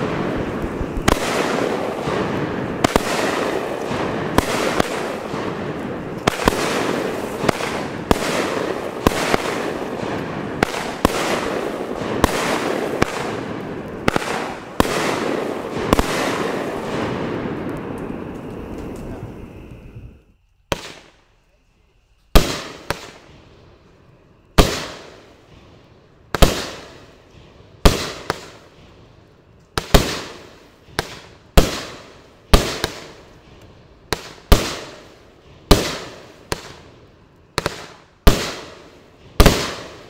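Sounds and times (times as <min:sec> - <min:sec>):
firework bangs: 0:00.0 - 0:21.2, 0:22.3 - 0:23.8, 0:24.5 - 0:29.1, 0:29.7 - 0:40.0.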